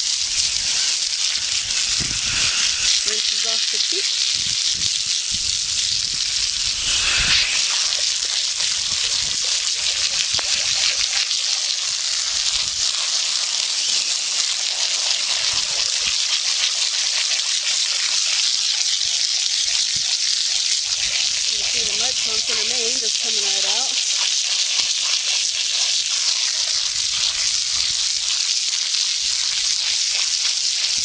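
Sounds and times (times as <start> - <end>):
water spray hissing: 0.0 - 18.4, 19.6 - 31.0.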